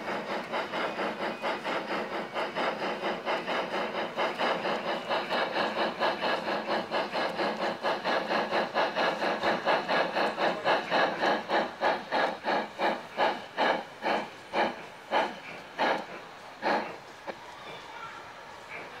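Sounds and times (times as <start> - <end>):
model steam locomotive chuffing: 0.0 - 19.0.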